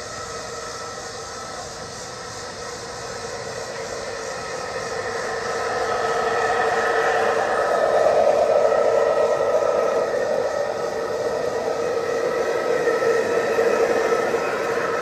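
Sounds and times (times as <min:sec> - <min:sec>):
model locomotives humming on track: 0:00.0 - 0:15.0.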